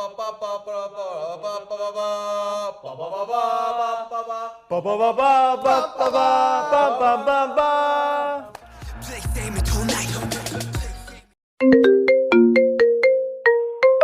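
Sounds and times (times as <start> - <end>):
voices singing held notes: 0.0 - 11.2.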